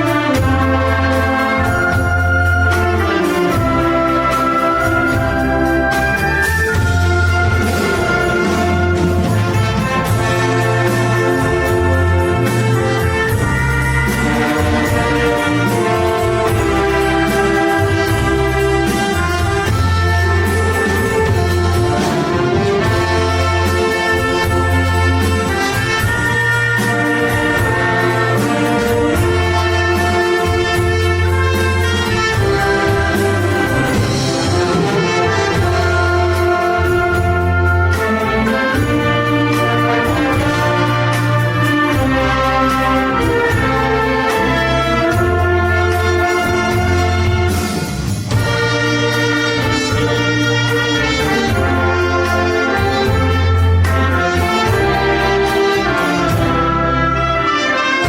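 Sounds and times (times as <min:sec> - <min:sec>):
brass melody: 0:00.0 - 0:58.0
wind orchestra playing pop medley: 0:00.0 - 0:58.0.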